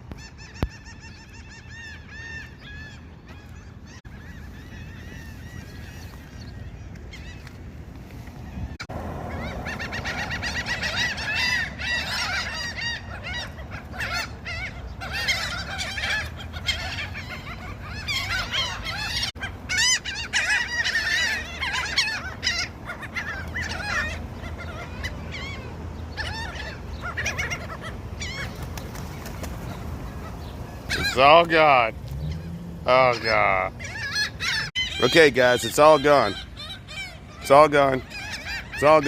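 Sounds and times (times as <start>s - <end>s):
seagulls squawking: 0.0s - 39.0s.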